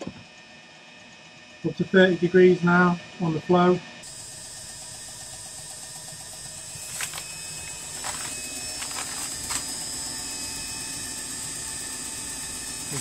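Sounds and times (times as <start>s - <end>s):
diesel heater running: 0.0s - 13.0s.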